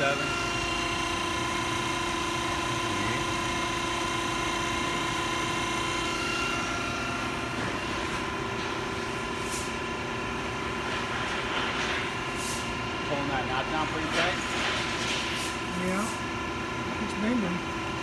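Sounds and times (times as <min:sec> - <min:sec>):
test machine humming and whining: 0:00.0 - 0:18.0.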